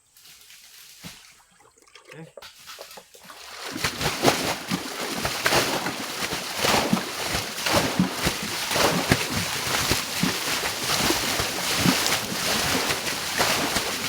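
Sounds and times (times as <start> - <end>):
water sloshing and splashing: 0.7 - 14.0.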